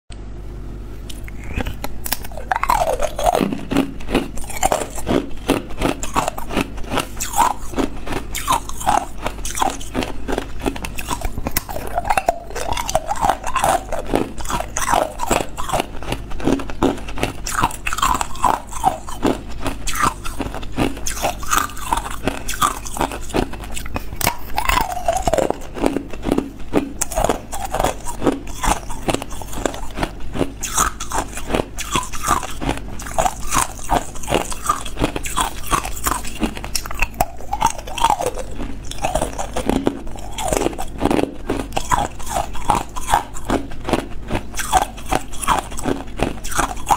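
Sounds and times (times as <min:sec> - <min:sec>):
ice cubes crunching: 0:01.1 - 0:46.9.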